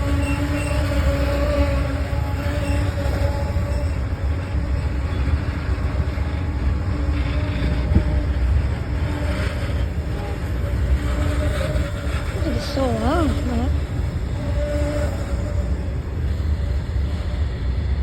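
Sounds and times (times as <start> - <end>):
goods train rumbling past: 0.0 - 18.0.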